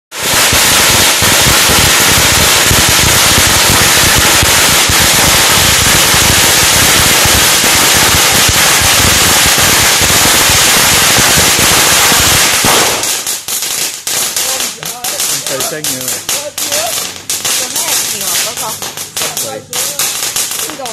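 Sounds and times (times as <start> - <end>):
firecrackers banging: 0.1 - 20.9.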